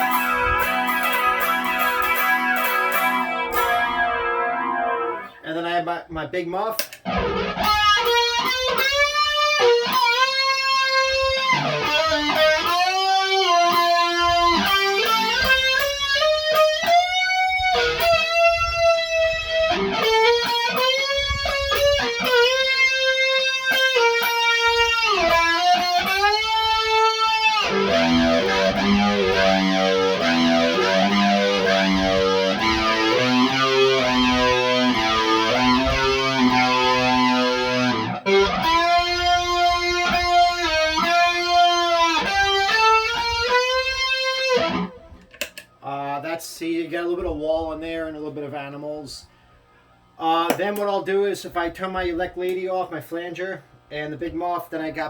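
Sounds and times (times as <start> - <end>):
fuzzy electric guitar: 0.0 - 5.6, 6.7 - 45.8.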